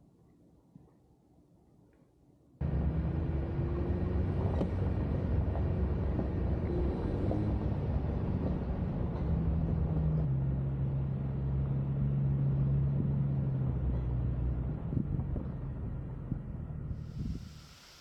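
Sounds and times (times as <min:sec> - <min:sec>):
low engine drone: 0:02.6 - 0:18.0.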